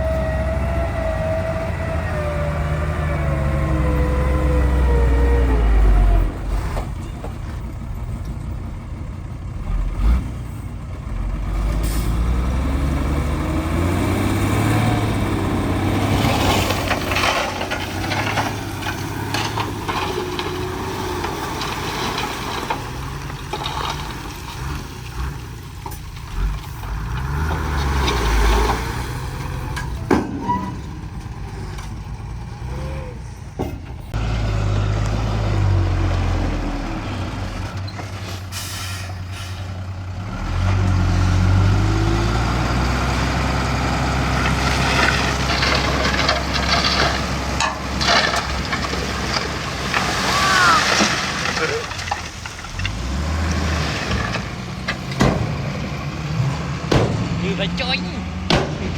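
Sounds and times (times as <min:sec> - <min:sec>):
diesel machinery rumbling: 0:00.0 - 0:58.9.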